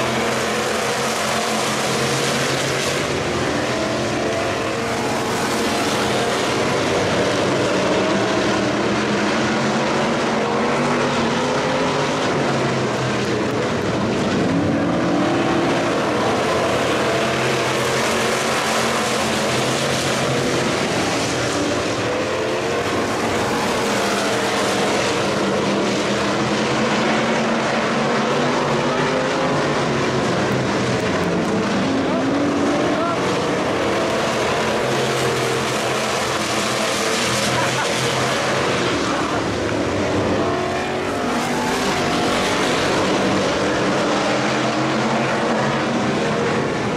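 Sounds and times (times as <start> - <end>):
race car engines: 0.0 - 46.9
steady rush of noise: 0.0 - 46.9.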